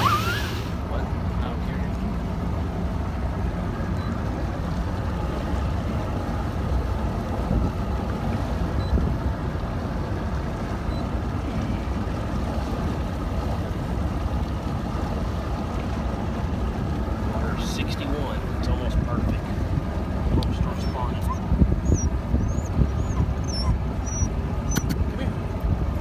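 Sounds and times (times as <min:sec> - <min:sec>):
outboard engine rushing: 0:00.0 - 0:26.0
water rushing: 0:00.0 - 0:26.0
wind: 0:00.0 - 0:26.0.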